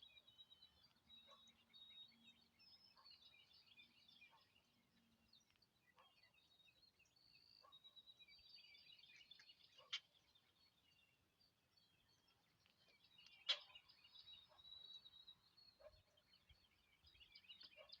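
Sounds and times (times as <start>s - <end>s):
songbirds chirping faintly: 0.0s - 18.0s.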